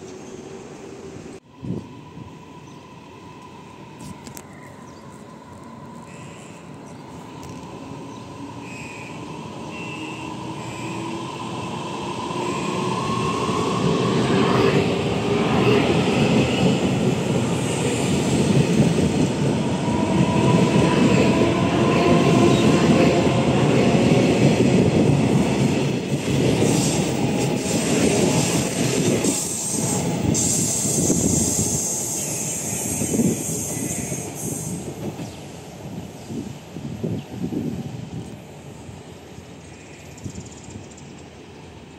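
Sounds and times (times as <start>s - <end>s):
electric train passing: 0.0s - 41.9s.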